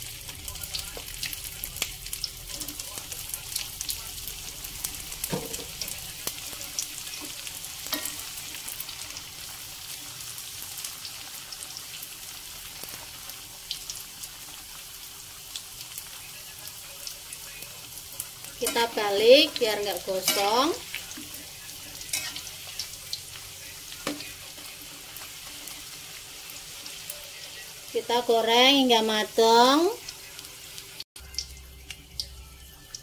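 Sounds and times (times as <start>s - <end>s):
food deep-frying in oil: 0.0s - 33.0s.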